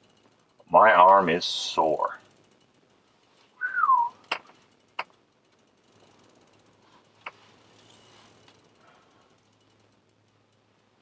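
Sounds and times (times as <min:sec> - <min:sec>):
fishing reel clicking and ratcheting: 0:00.0 - 0:03.5, 0:04.1 - 0:11.0.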